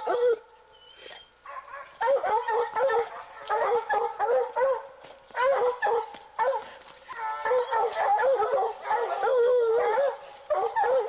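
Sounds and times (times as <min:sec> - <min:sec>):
hounds barking and bawling: 0:00.0 - 0:11.0.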